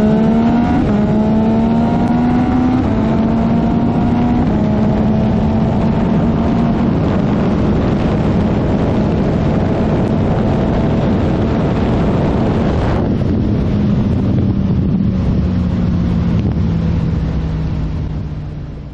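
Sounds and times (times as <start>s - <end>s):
motorcycle engine drone: 0.0s - 18.9s
wind buffeting microphone: 0.0s - 18.9s.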